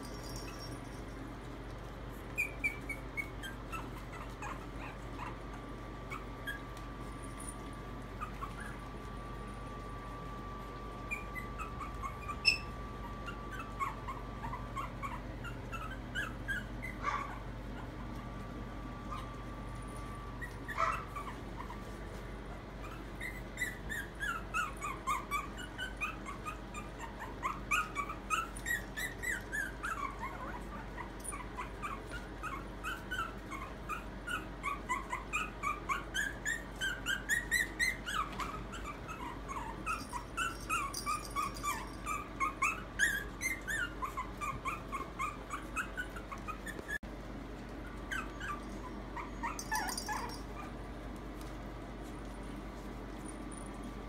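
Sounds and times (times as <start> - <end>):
puppy whimpering and yipping: 2.2 - 47.0, 47.7 - 50.8.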